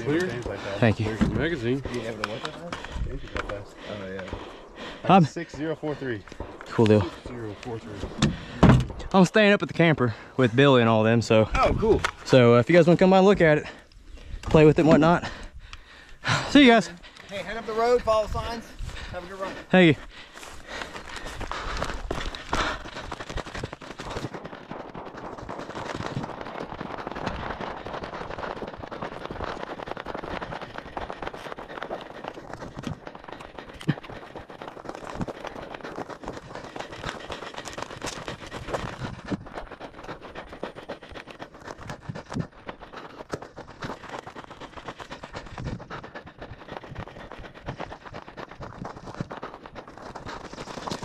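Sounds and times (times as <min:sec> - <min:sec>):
running footsteps on gravel: 0:00.0 - 0:51.0.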